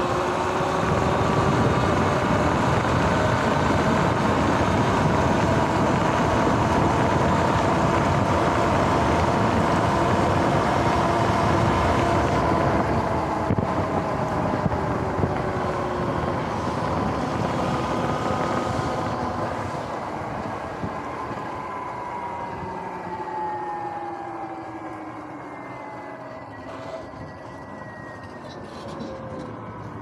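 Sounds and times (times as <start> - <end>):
wind and tyre noise: 0.0 - 30.0.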